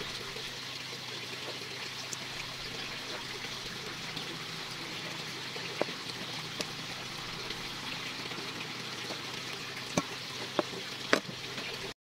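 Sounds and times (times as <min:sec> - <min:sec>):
steady watery hiss: 0:00.0 - 0:11.9.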